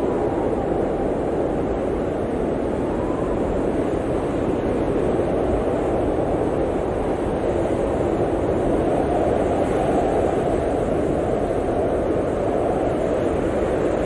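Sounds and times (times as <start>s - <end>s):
blizzard wind rushing: 0.0s - 14.0s.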